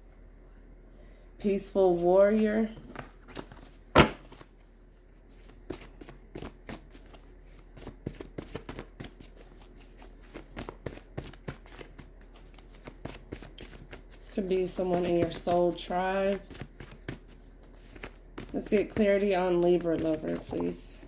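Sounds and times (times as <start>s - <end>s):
cards being shuffled: 2.8s - 4.6s, 5.3s - 21.0s.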